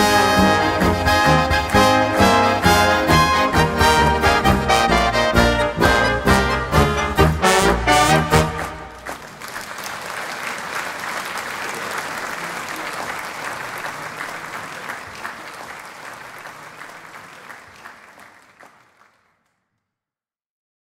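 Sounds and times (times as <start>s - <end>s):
audience applauding: 0.0s - 5.1s, 6.3s - 19.6s.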